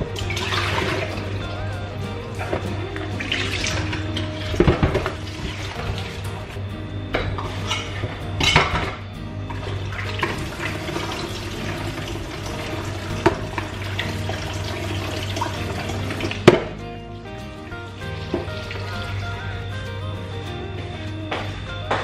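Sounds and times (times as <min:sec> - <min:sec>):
tap water running into basin: 0:00.0 - 0:06.5, 0:07.2 - 0:16.8, 0:17.7 - 0:19.5
background music: 0:00.0 - 0:22.0.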